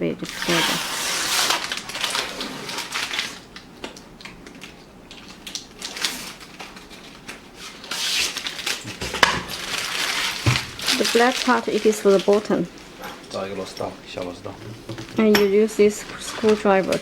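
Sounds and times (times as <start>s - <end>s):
protective film peeling off plastic: 0.3s - 14.4s.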